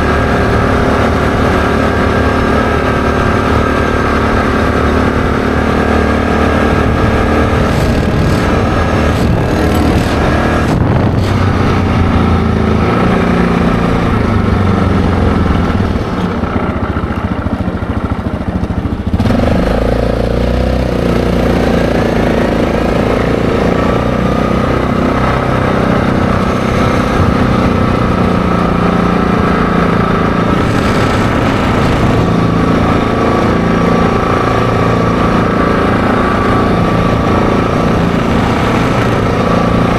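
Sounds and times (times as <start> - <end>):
atv engine running: 0.0 - 39.9
wind noise: 0.0 - 39.9.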